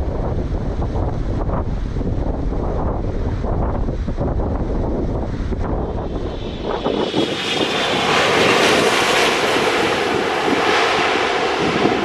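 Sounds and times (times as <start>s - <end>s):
jet engine roar with whine: 0.0s - 12.0s.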